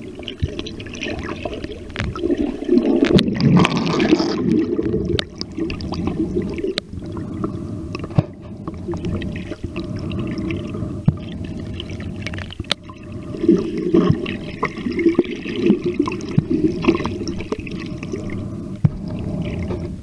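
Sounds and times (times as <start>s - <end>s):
underwater churning rumble: 0.0s - 20.0s.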